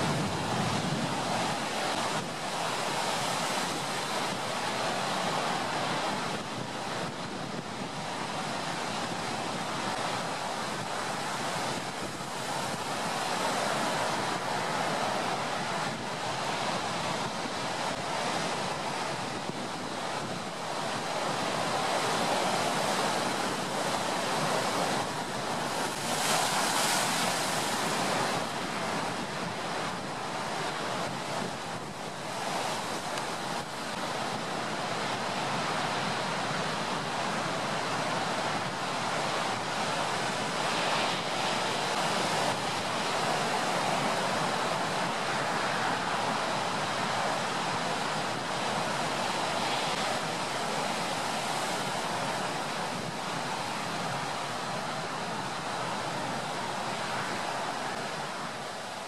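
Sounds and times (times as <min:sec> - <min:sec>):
strong wind: 0:00.0 - 0:59.0.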